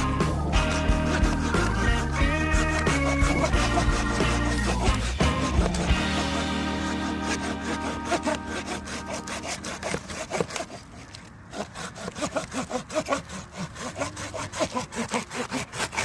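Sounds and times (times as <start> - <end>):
pruning saw cutting branch: 0.0 - 16.0.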